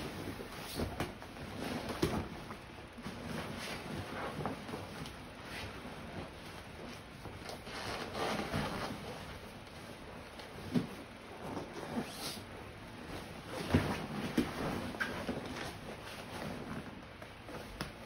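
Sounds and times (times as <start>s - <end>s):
canvas fabric rustling: 0.0s - 18.0s.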